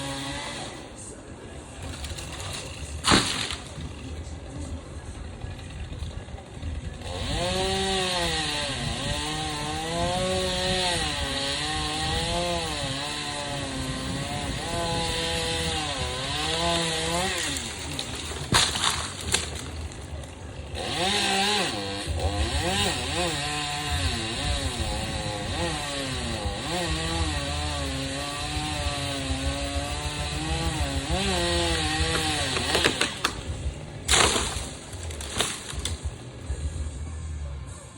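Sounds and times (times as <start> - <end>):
chainsaw cutting wood: 0.0 - 1.1, 1.8 - 4.6, 5.3 - 36.7.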